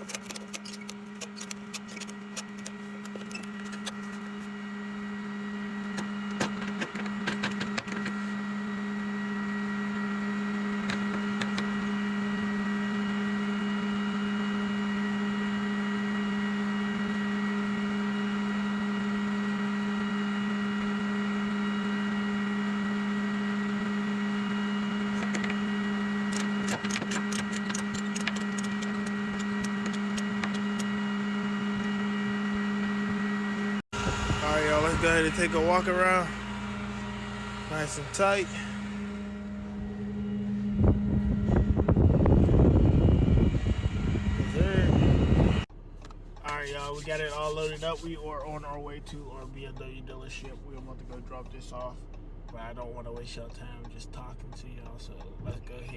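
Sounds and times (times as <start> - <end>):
hydraulic system humming: 0.0 - 19.5, 20.1 - 55.9.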